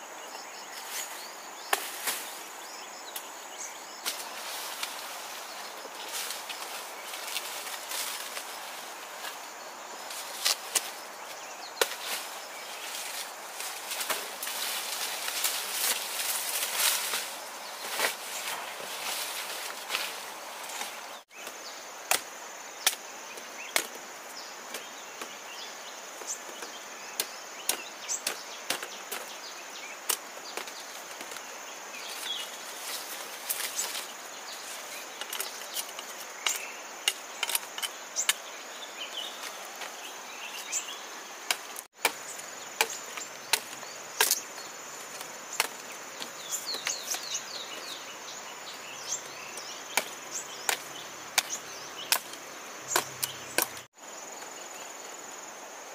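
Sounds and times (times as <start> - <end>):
high insect drone: 0.0 - 55.9.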